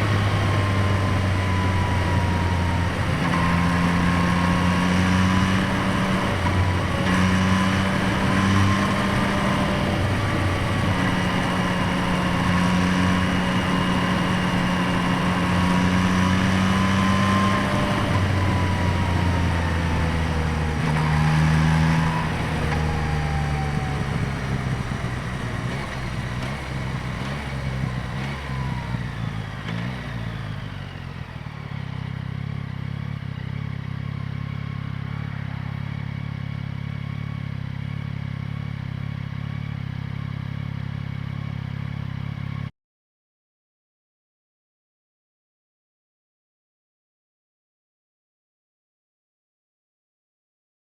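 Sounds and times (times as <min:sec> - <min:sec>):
motorcycle engine running: 0:00.0 - 0:42.7.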